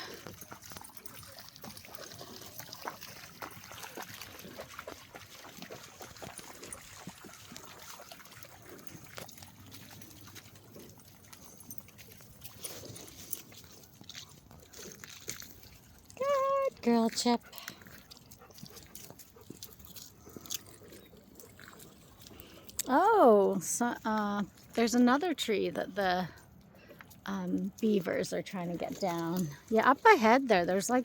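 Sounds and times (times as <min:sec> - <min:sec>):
river water trickling: 0:00.0 - 0:31.0.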